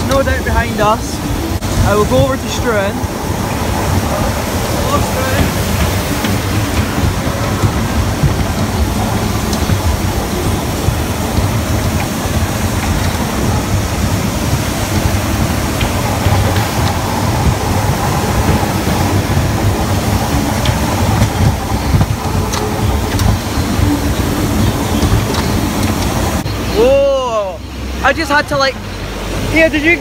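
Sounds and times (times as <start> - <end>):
go-kart rumbling and rattling: 0.0 - 30.0.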